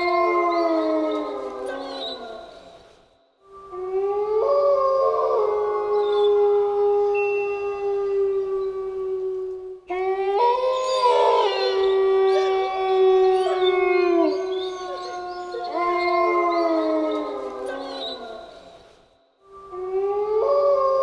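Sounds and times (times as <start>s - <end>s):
wolves howling in chorus: 0.0s - 2.6s, 3.8s - 18.8s, 19.8s - 21.0s.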